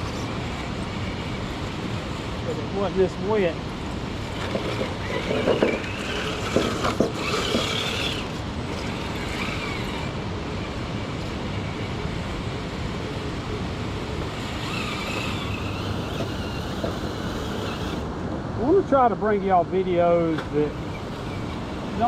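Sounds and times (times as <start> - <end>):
electric motor whining: 0.0 - 18.1
steady rushing background noise: 0.0 - 22.0.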